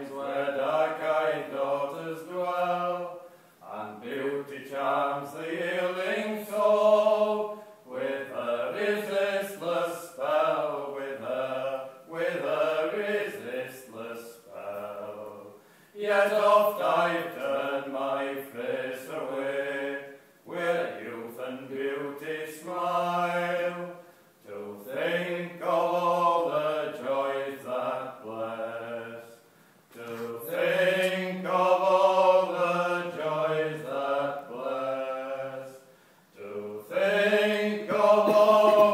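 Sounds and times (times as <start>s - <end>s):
two men singing unaccompanied: 0.0s - 38.9s.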